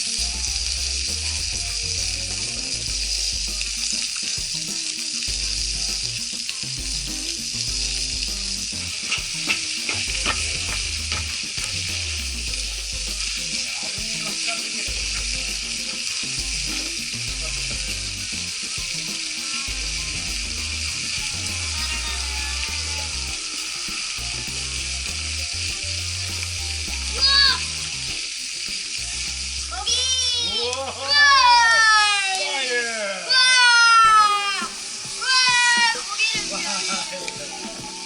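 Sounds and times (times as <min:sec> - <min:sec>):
low background music: 0:00.0 - 0:32.2, 0:33.7 - 0:38.0
fire popping: 0:00.0 - 0:32.7, 0:33.3 - 0:38.0
food sizzling in a pan: 0:00.0 - 0:38.0.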